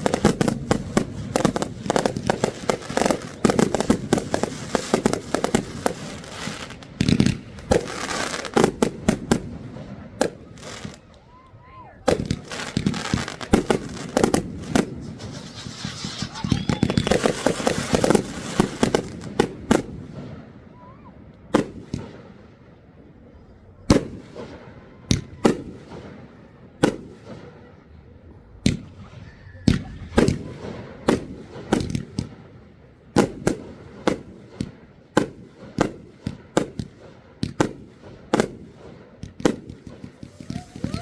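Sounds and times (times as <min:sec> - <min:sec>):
fireworks bangs with echo: 0:00.0 - 0:11.1, 0:12.0 - 0:20.7, 0:21.5 - 0:22.8, 0:23.8 - 0:27.9, 0:28.5 - 0:41.0.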